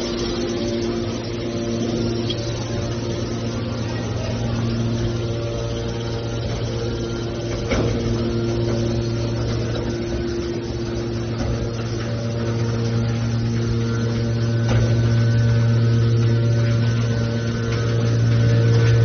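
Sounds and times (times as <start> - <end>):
hydraulic baler humming: 0.0 - 19.0.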